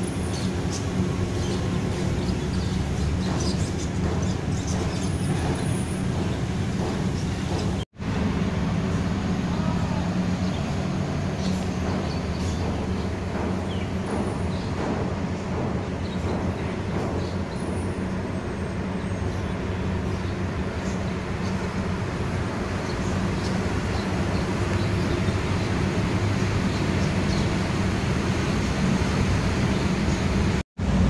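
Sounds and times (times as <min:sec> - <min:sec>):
low engine hum: 0:00.0 - 0:31.0
road noise: 0:00.0 - 0:31.0.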